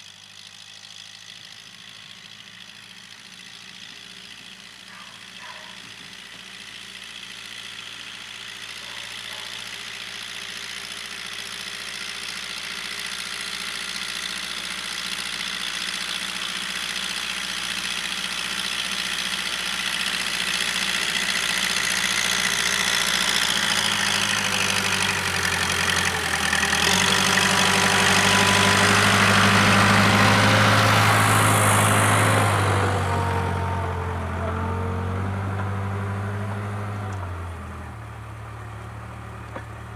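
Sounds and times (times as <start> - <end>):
diesel engine running: 0.1 - 39.9.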